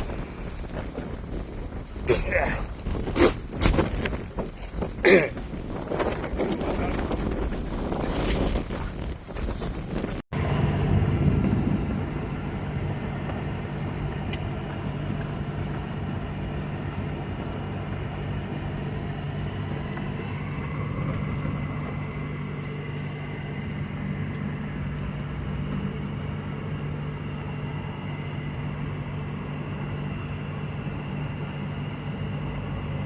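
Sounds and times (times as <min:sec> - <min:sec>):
vehicle low hum: 0:00.0 - 0:33.0.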